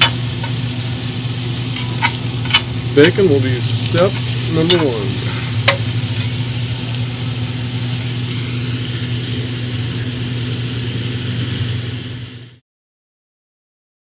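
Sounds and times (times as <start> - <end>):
bacon sizzling in a pot: 0.0 - 12.6
low hum: 0.0 - 12.6.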